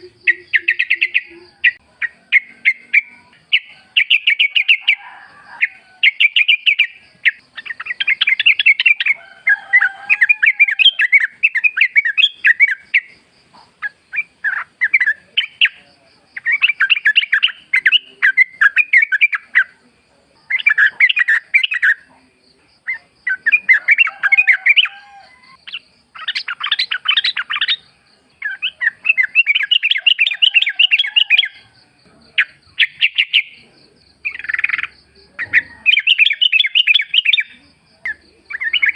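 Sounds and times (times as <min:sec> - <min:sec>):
birds chattering song: 0:00.0 - 0:38.9.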